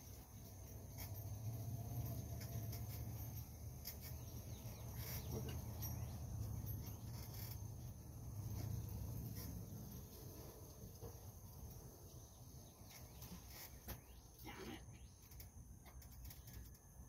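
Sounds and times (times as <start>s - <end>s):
insect sounds: 0.0s - 17.0s.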